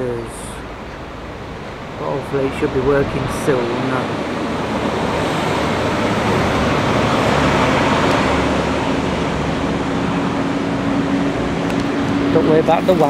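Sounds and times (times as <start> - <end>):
lorry passing: 0.0 - 13.0
steady engine drone: 0.0 - 13.0.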